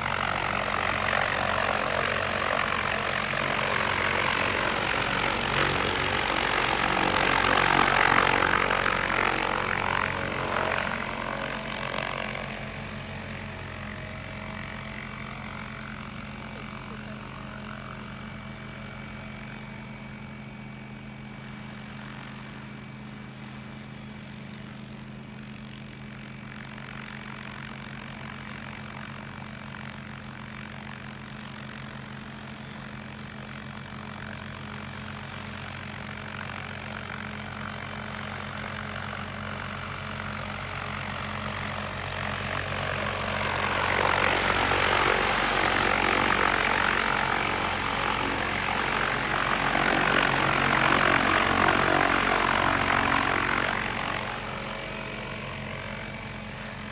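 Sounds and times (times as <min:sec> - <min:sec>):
helicopter rotor hum: 0:00.0 - 0:56.9.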